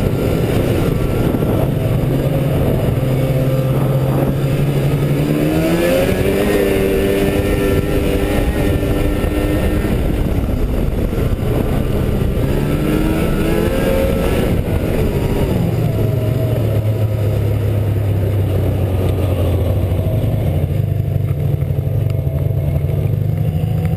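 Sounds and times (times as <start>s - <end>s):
snowmobile engine running: 0.0s - 23.9s.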